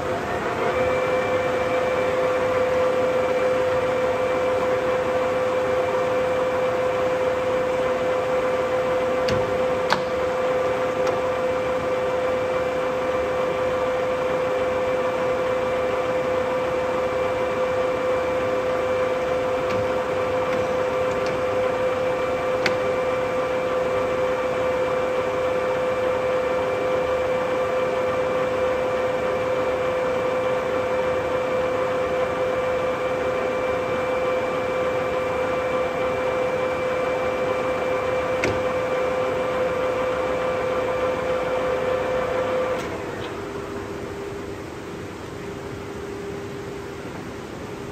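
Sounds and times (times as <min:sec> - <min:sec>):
lathe motor hum: 0:00.0 - 0:45.2.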